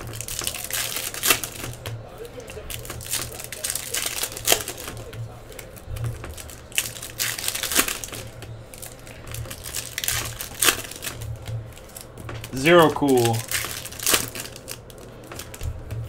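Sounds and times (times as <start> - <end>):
foil wrappers crinkling and tearing: 0.0 - 16.0.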